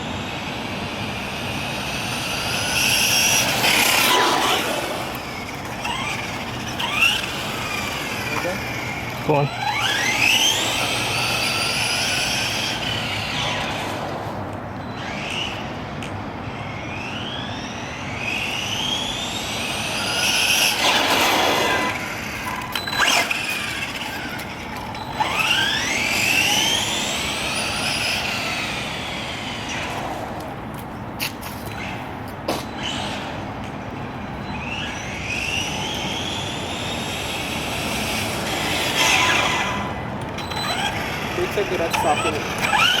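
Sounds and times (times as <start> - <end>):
electric motor whining: 0.0 - 30.6, 34.5 - 43.0.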